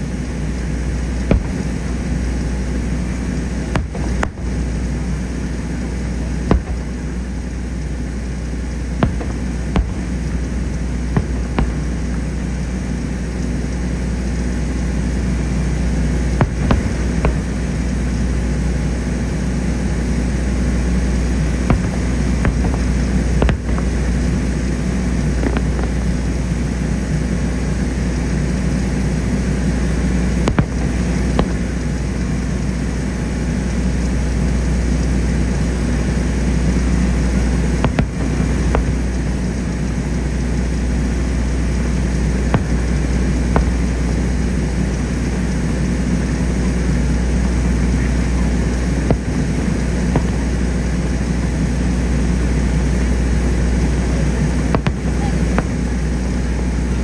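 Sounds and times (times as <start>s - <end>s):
distant firework booms: 0.0s - 33.8s, 35.8s - 57.0s
sharp firework cracks: 0.4s - 57.0s.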